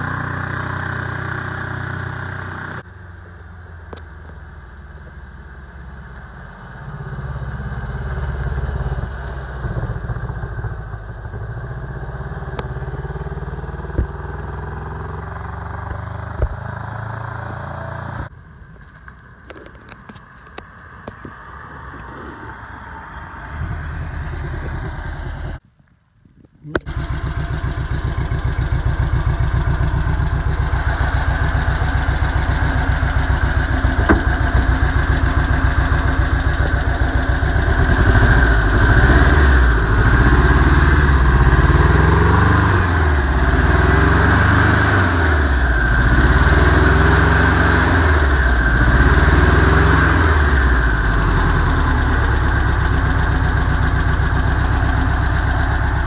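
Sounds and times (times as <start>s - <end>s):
engine idling and revving: 0.0s - 25.6s, 26.8s - 56.0s.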